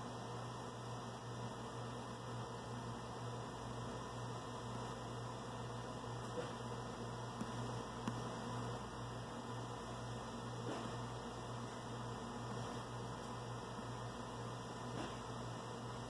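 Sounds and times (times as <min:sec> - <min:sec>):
low electrical hum and hiss: 0:00.0 - 0:16.0.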